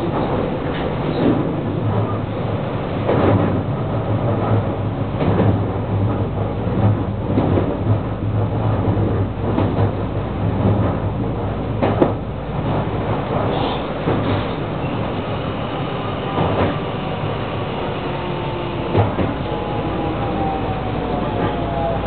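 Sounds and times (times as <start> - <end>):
electric train hum: 0.0 - 22.0.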